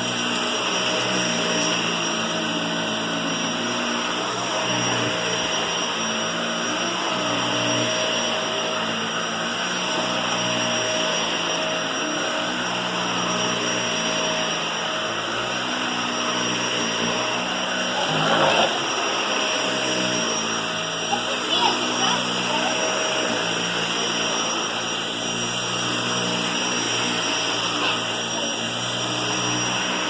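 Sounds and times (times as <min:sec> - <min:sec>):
vacuum cleaner whining: 0:00.0 - 0:30.0.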